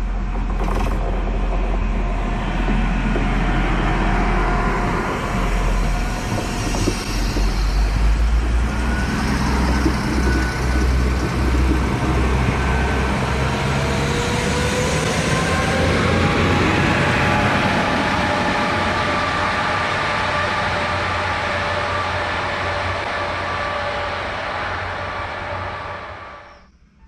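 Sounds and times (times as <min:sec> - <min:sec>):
diesel engines running: 0:00.0 - 0:26.5
train wheels rumbling on rails: 0:00.0 - 0:26.5.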